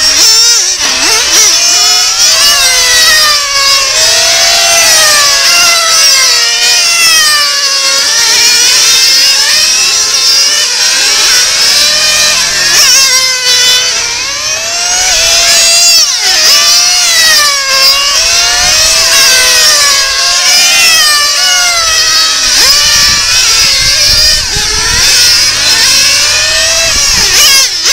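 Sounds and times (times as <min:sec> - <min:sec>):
model car engines screaming: 0:00.0 - 0:27.9.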